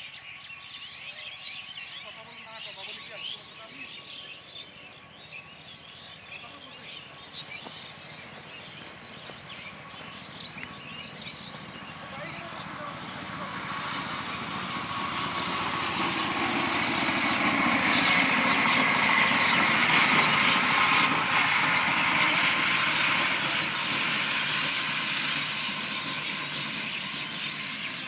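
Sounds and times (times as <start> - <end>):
vehicle engine passing: 2.6 - 28.0.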